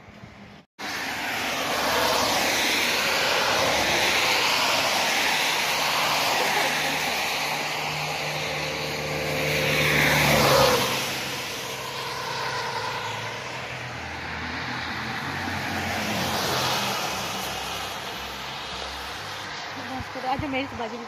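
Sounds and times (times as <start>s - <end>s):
steady engine hum: 0.0s - 21.0s
passing car swishing by: 0.8s - 20.7s
tyres hissing on wet road: 0.8s - 21.0s.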